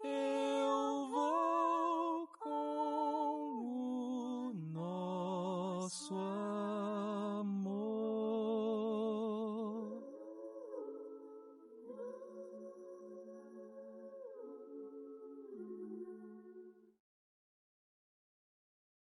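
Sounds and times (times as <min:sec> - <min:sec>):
duet singing with vibrato: 0:00.0 - 0:16.9.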